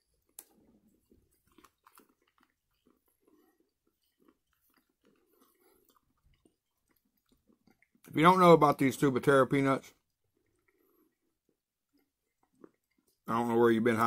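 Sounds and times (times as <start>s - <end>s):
faint chewing and crunching: 0.0s - 14.0s.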